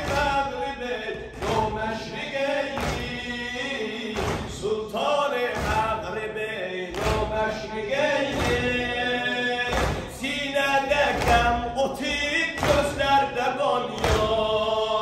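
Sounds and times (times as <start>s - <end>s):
deep rhythmic thuds: 0.0s - 15.0s
men chanting: 0.0s - 15.0s.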